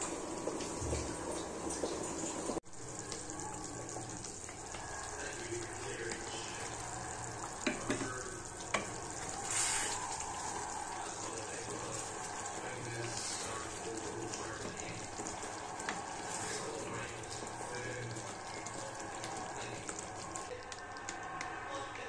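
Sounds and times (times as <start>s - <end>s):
gravy bubbling and sizzling in pot: 0.0s - 22.0s
wooden spatula stirring: 3.9s - 21.6s.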